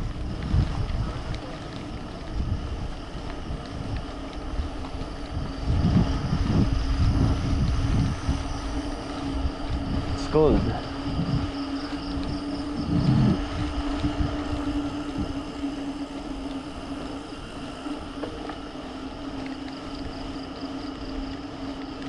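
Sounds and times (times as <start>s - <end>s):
steady low hum: 0.0s - 22.0s
wind on microphone: 0.0s - 22.0s.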